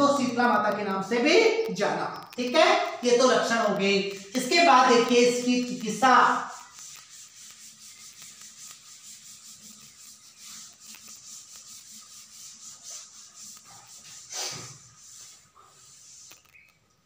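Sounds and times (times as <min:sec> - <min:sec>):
duster rubbing on chalkboard: 0:00.0 - 0:16.7.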